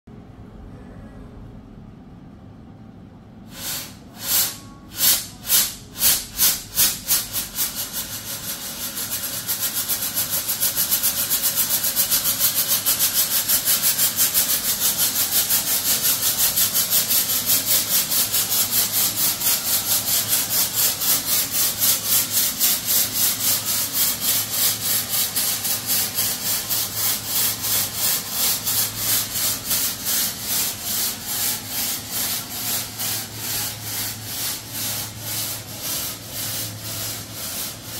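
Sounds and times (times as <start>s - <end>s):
fog machine pulsing hiss: 3.4s - 37.9s.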